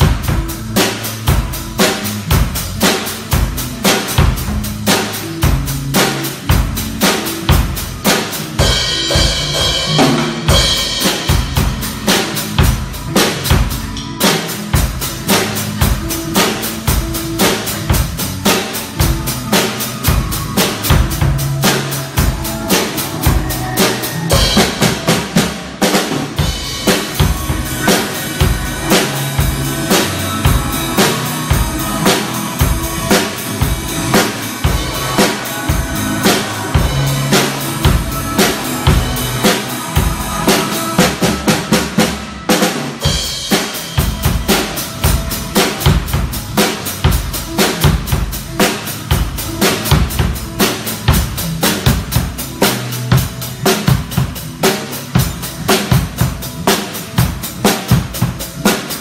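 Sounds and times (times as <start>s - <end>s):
drum kit beat: 0.0s - 59.0s.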